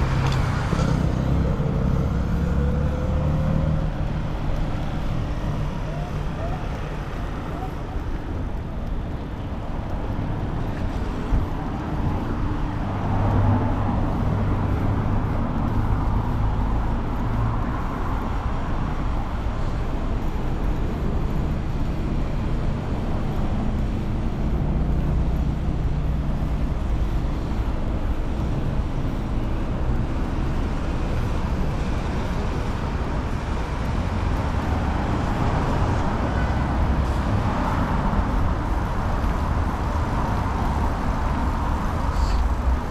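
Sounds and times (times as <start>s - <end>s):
road traffic engines rumbling: 0.0s - 42.9s.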